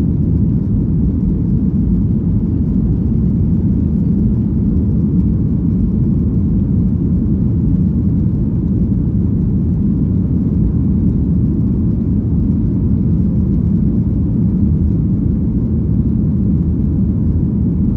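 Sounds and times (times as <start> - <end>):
jet engines rumbling in cabin: 0.0 - 17.9.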